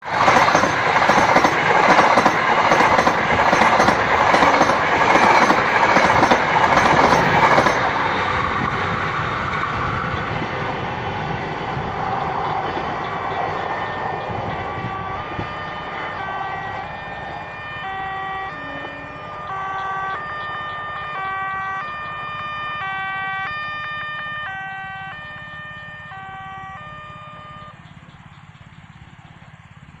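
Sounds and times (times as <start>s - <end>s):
passenger train rumbling past: 0.0s - 30.0s.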